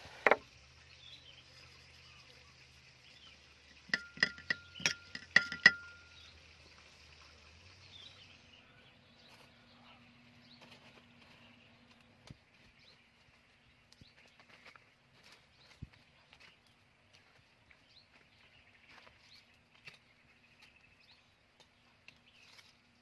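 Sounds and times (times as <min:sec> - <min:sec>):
faint outdoor background: 0:00.0 - 0:23.0.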